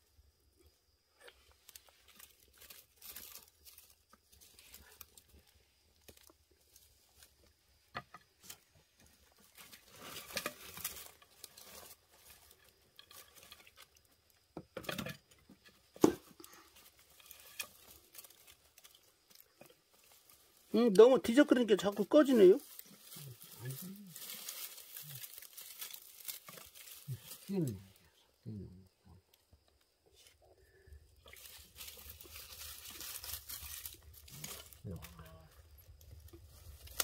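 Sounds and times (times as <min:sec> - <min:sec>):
brushwood fire crackling: 0:01.3 - 0:28.2, 0:29.3 - 0:37.0
sticks rustling: 0:01.6 - 0:28.0, 0:31.2 - 0:37.0.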